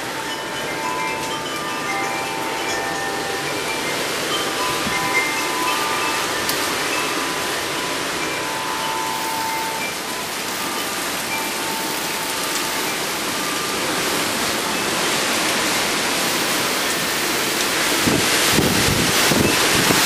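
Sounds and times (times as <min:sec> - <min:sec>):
heavy rain pouring: 0:00.0 - 0:20.0
wind chimes ringing: 0:00.0 - 0:20.0.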